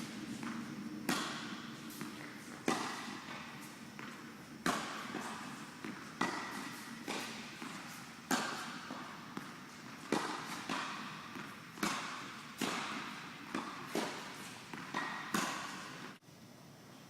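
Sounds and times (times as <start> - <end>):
tennis ball hit by rackets: 0.0 - 16.2
ball bouncing on court: 0.4 - 16.2.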